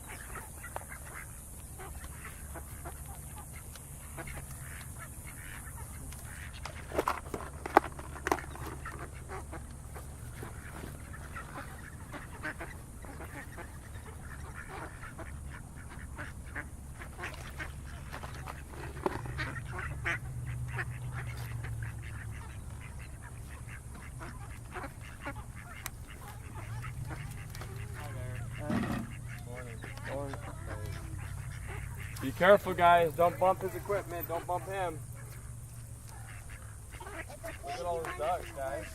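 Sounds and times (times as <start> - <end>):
ducks quacking: 0.0 - 38.9.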